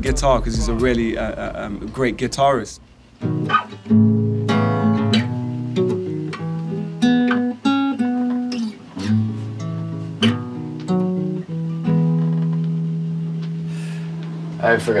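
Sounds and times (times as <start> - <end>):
acoustic guitar chords: 0.0 - 14.6.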